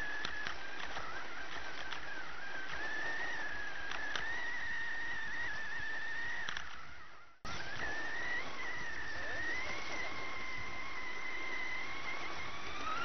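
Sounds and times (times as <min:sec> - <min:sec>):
rc truck motor whining: 0:00.0 - 0:13.0.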